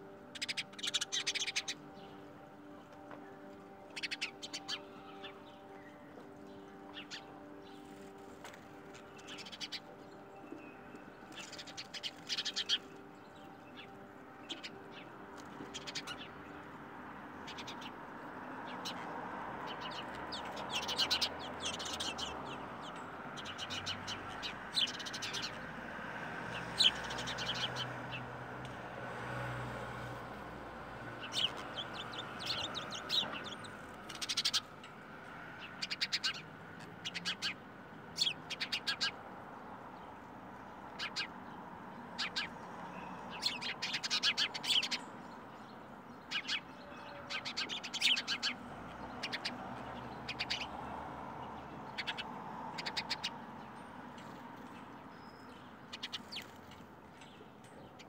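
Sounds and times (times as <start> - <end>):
birds chirping: 0.0 - 28.4, 29.4 - 58.0.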